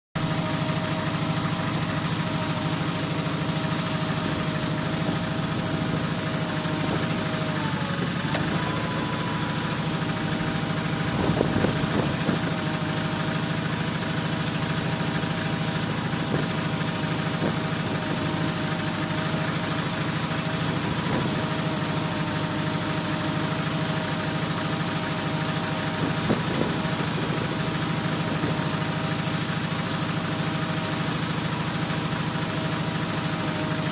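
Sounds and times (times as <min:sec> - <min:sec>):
tractor engine running: 0:00.2 - 0:33.9.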